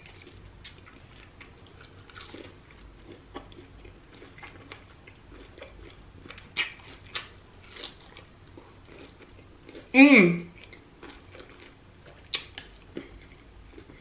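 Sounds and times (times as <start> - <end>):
crunchy chewing: 0.0 - 9.9, 10.6 - 14.0.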